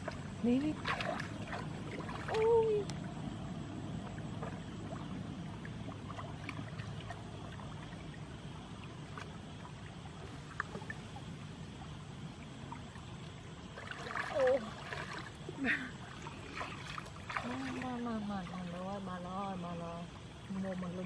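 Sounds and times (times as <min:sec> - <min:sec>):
muddy water sloshing: 0:00.0 - 0:21.0
small splashes and drips: 0:00.0 - 0:21.0.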